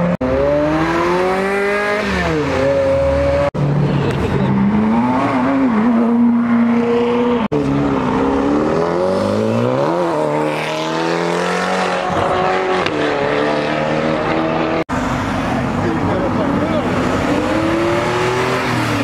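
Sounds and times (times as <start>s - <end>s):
sports car engines accelerating: 0.0s - 19.0s.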